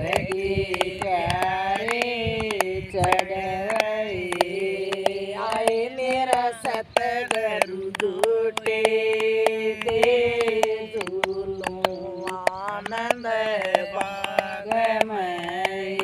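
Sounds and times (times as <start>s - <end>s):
sharp percussive clicks: 0.0s - 16.0s
woman singing: 0.0s - 16.0s.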